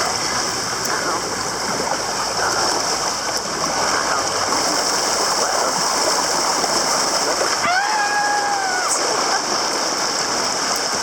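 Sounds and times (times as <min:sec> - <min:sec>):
flowing and splashing water: 0:00.0 - 0:11.0.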